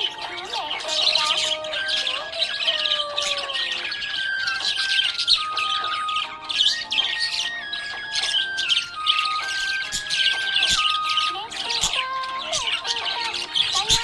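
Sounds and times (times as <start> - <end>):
background music: 0.0 - 14.0
budgies chirping and squawking: 0.0 - 14.0.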